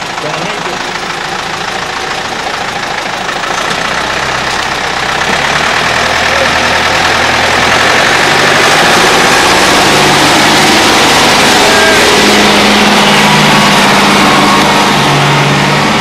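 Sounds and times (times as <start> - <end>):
outboard motor running: 0.0 - 13.5.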